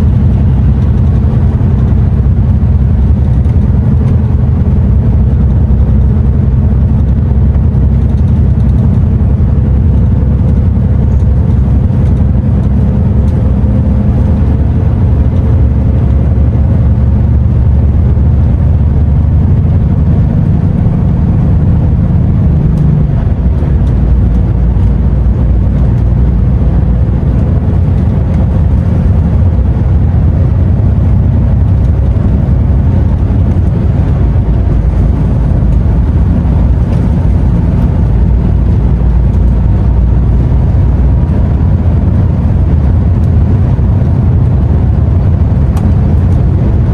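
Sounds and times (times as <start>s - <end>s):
road noise: 0.0s - 46.9s
truck diesel engine driving: 0.0s - 46.9s.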